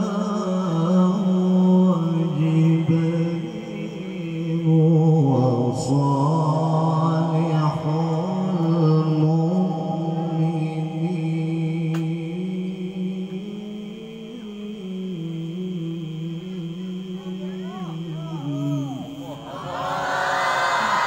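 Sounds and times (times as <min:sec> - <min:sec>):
man reciting melodically: 0:00.0 - 0:19.8.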